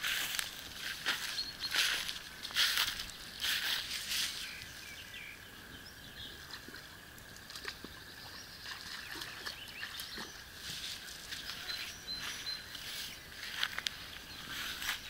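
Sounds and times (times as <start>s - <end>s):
faint bird chirps: 0.2s - 6.8s, 7.6s - 15.0s.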